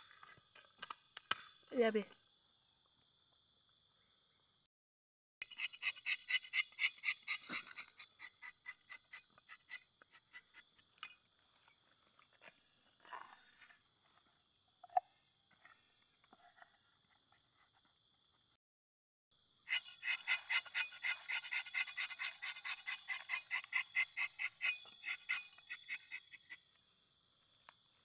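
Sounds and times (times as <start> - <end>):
insects chirping in a high trill: 0.0 - 4.7, 5.4 - 18.6, 19.4 - 28.0.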